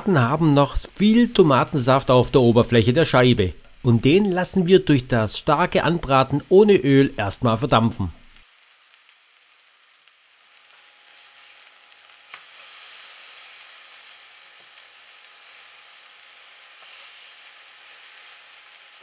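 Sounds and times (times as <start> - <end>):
tomato slices sizzling in pan: 0.0 - 19.0.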